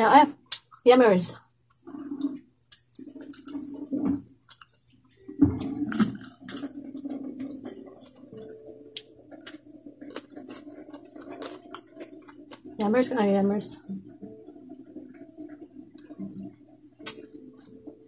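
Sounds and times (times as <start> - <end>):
wet chewing and lip-smacking: 0.4 - 12.9, 13.7 - 18.0.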